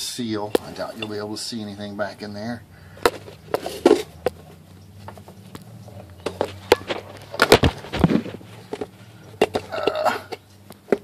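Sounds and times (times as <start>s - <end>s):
handling clicks and knocks: 0.4s - 1.2s, 3.0s - 11.0s.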